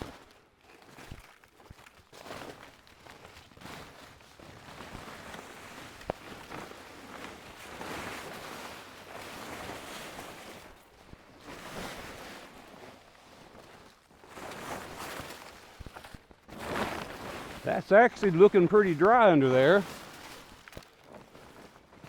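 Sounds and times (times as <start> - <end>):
plastic tarp rustling and scraping: 0.0 - 17.6, 19.8 - 22.0.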